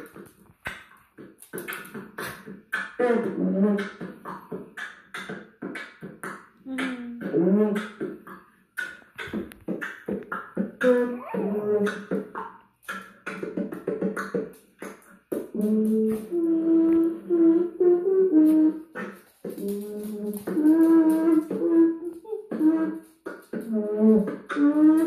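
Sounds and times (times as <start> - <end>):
beatboxing into microphone: 0.0 - 25.0.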